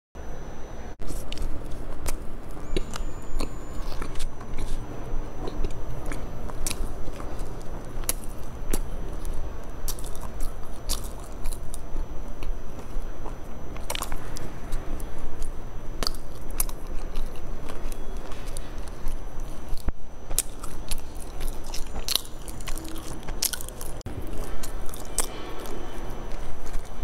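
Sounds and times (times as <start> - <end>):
biting and chewing bread: 1.0 - 27.0.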